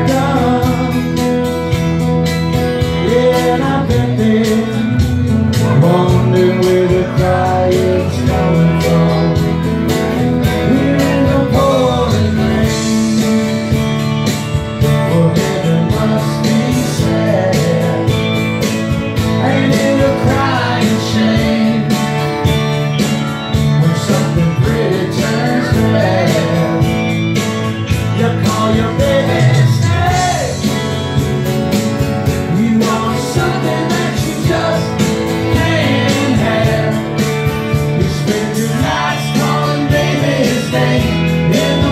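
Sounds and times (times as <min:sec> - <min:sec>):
man singing into a microphone: 0:00.0 - 0:01.9, 0:02.7 - 0:13.7, 0:14.8 - 0:22.6, 0:23.5 - 0:30.8, 0:32.2 - 0:41.9
acoustic guitars strummed: 0:00.0 - 0:41.9.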